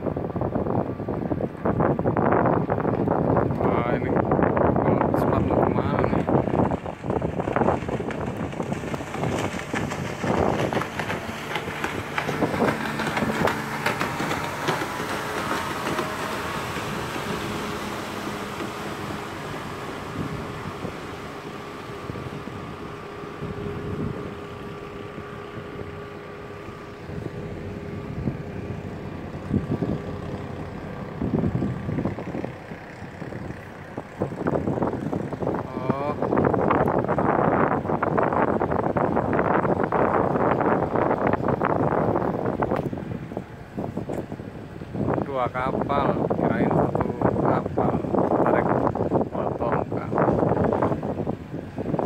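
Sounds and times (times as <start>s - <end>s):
boat engine running: 0.0s - 52.0s
wind on microphone: 0.0s - 52.0s
rushing water: 1.3s - 52.0s.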